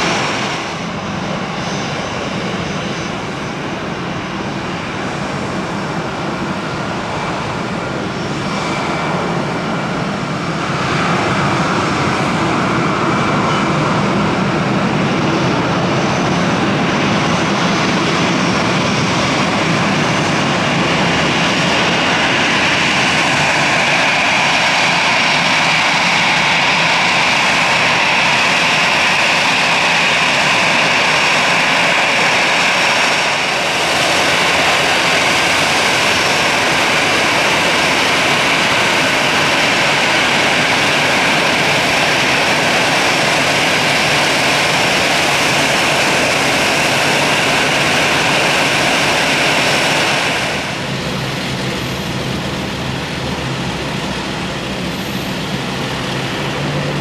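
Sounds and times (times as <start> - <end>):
jet engines whining at low thrust: 0.0 - 57.0.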